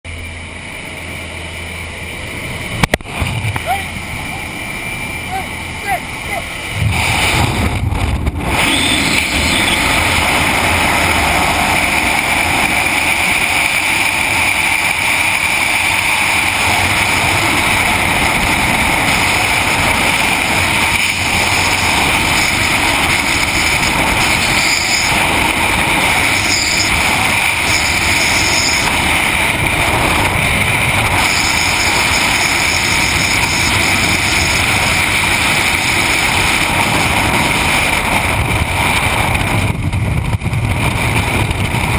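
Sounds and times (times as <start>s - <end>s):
wind rushing over microphone: 0.2s - 41.9s.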